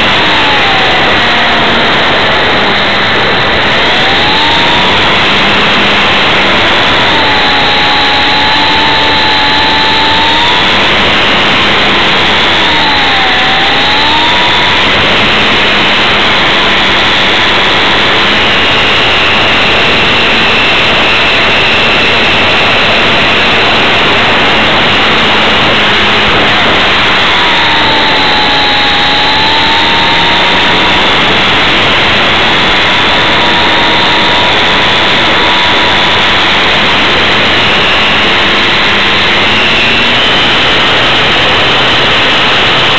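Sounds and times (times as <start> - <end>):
model airplane motor whine: 0.0 - 42.9
wind rushing: 0.0 - 42.9.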